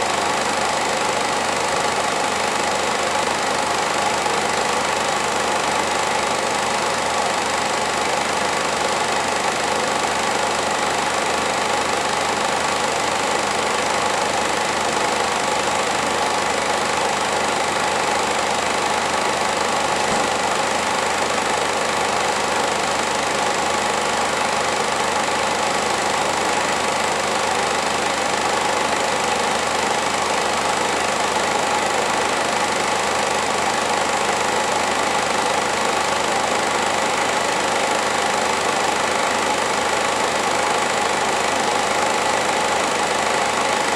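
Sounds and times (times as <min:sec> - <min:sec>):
film projector whirring: 0:00.0 - 0:43.9.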